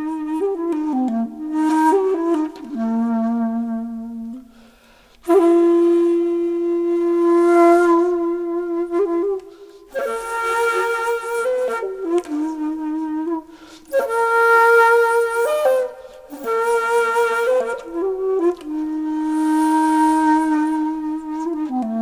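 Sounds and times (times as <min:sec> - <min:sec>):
solo flute playing: 0:00.0 - 0:22.0.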